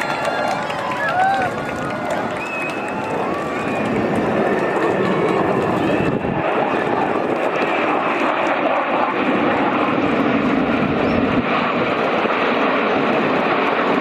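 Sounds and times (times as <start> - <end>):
military aircraft engine rush: 0.0 - 14.0.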